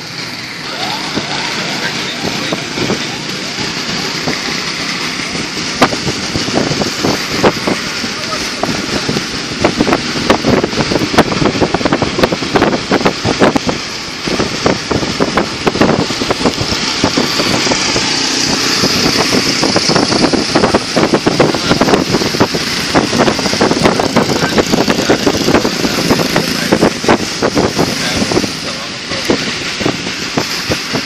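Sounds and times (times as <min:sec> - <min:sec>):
tyres hissing through water: 0:00.0 - 0:31.0.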